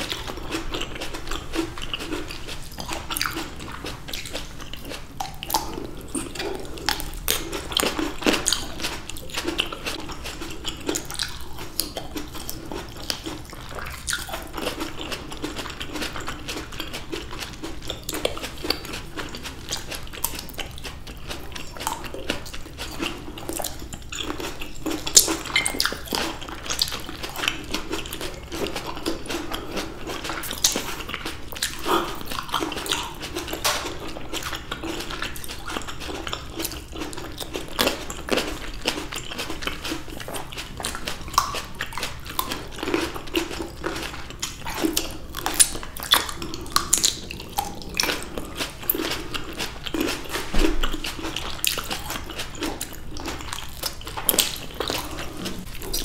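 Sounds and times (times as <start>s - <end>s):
people chewing grapes: 0.0s - 56.0s.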